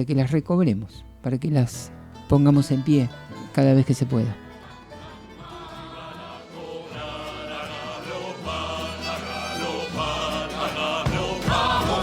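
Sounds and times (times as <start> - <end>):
held bass line: 0.0 - 12.0
song with instruments and voices: 2.1 - 12.0.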